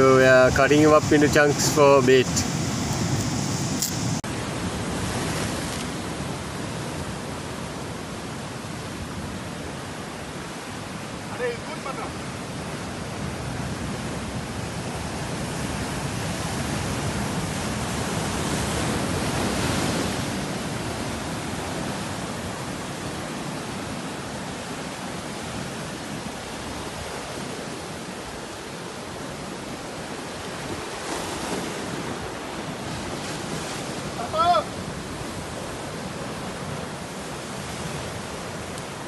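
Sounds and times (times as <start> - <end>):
surf washing over rocks: 0.0 - 39.0.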